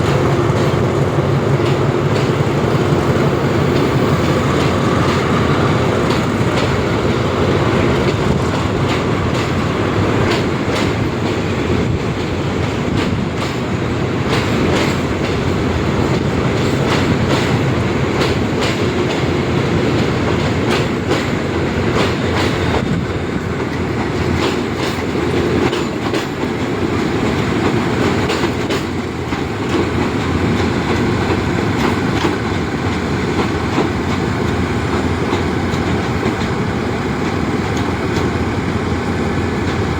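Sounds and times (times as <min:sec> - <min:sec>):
train rumbling on track: 0:00.0 - 0:39.9
wheels clicking over rail joints: 0:00.0 - 0:39.9.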